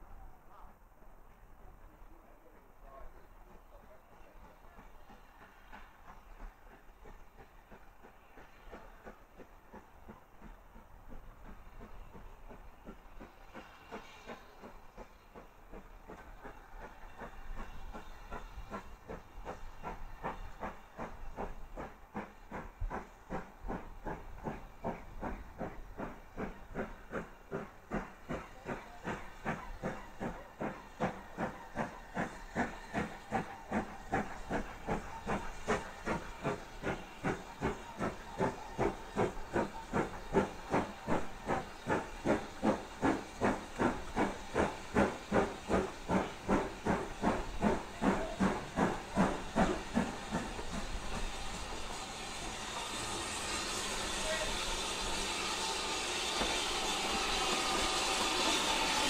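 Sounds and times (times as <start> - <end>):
steam locomotive chuffing: 0.0 - 59.0
steam hissing: 0.5 - 59.0.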